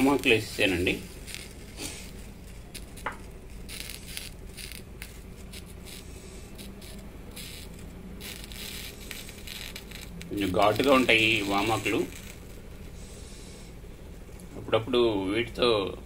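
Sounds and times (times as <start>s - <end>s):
gas stove burner: 0.0s - 14.0s.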